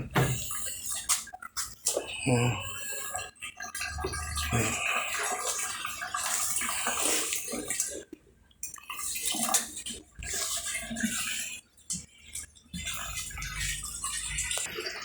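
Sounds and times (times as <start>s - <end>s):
water gushing from washing machine: 0.0s - 15.0s.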